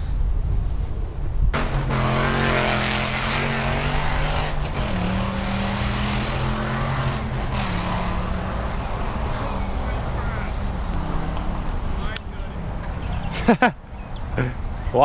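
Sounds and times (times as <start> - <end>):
propeller aircraft engine droning: 0.9 - 15.0.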